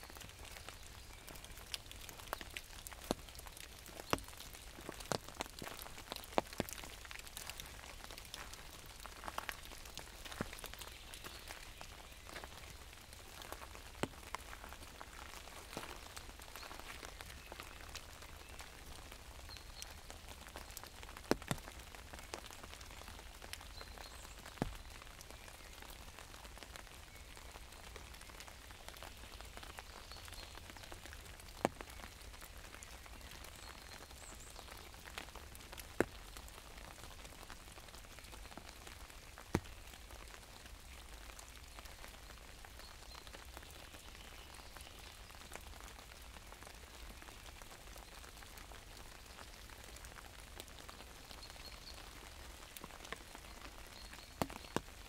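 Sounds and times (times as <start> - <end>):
rain falling on an umbrella: 0.0 - 55.0.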